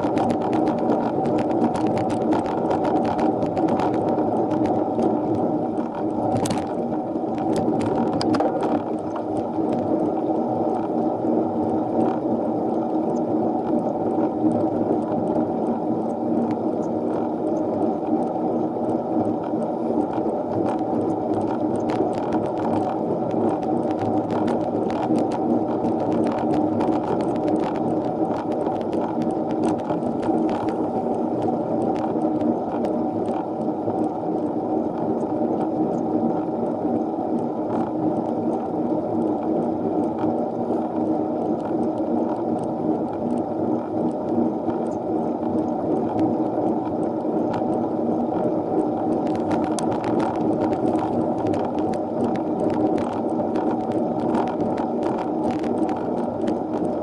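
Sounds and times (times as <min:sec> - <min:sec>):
bicycle road and drivetrain noise: 0:00.0 - 0:57.0.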